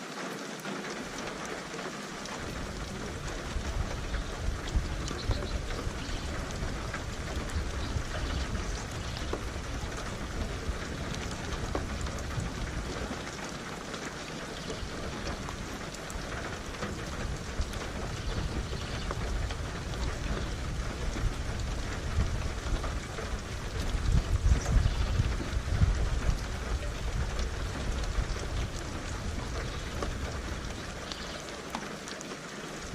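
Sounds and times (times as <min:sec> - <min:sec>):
steady rain falling: 0:00.0 - 0:32.9
low rumble of thunder: 0:02.4 - 0:31.5.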